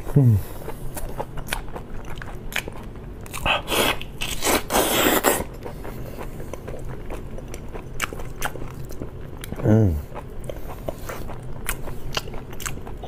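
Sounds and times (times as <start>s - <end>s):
prawn shell cracking and chewing: 0.7s - 13.0s.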